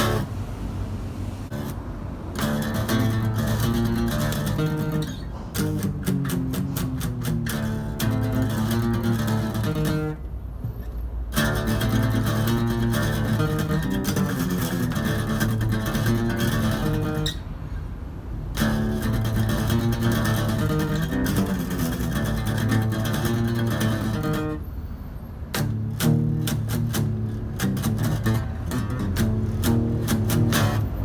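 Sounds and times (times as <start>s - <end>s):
acoustic guitar strumming: 0.0s - 0.3s, 1.5s - 17.8s, 18.5s - 24.6s, 25.4s - 31.0s.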